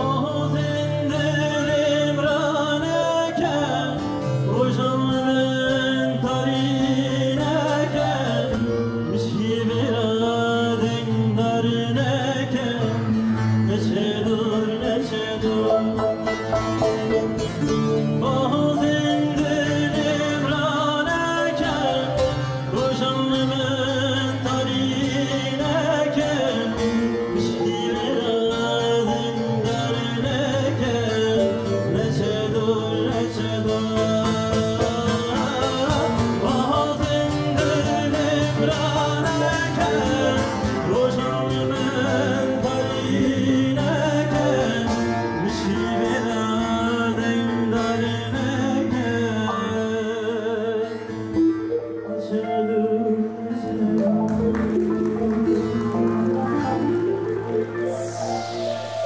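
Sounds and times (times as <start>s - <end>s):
man singing folk song: 0.0s - 58.3s
strummed lute: 0.0s - 59.0s.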